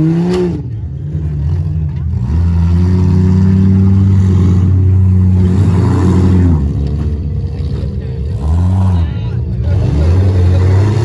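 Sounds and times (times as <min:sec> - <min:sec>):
race car engine at high revs: 0:00.0 - 0:11.0.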